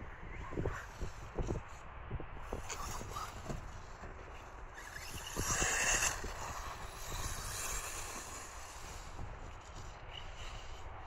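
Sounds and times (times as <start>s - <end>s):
rc car motor and tyres: 0.0s - 11.0s
wind noise on microphone: 0.0s - 11.0s.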